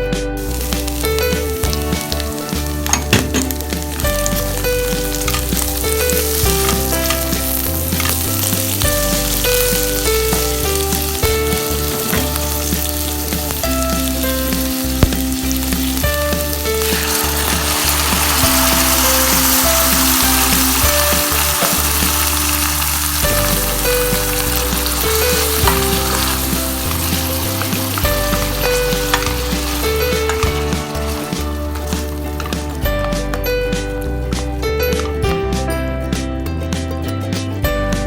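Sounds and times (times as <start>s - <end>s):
background music with bass line: 0.0s - 38.0s
food sizzling in a pan: 0.4s - 32.8s.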